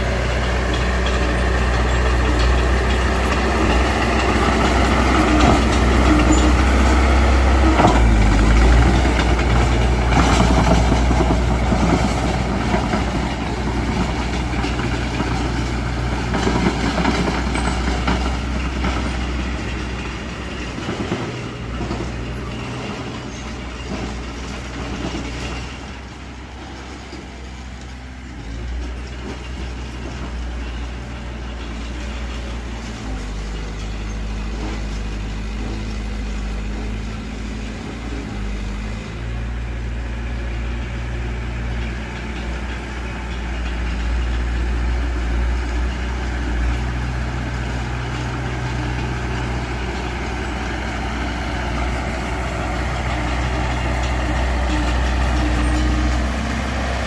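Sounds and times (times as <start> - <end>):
bulldozer diesel engine: 0.0 - 57.0
crawler tracks clanking: 0.0 - 57.0.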